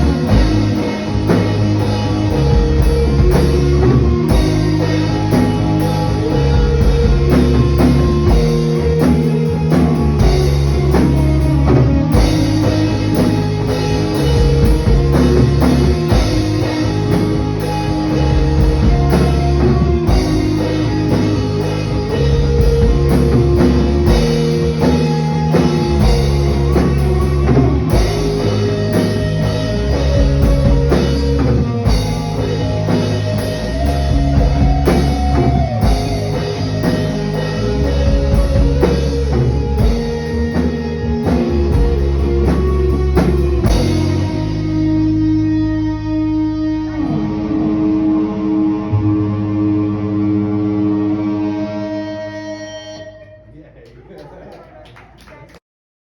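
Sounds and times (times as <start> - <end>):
rock band playing: 0.0 - 53.4
sustained bass notes: 0.0 - 53.7.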